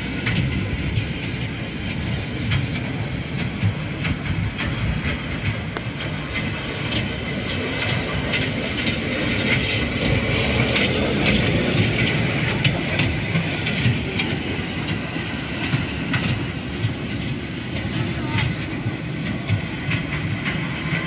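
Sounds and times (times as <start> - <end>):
small train wheels rumbling: 0.0 - 21.0
wheels clicking over rail joints: 0.0 - 21.0.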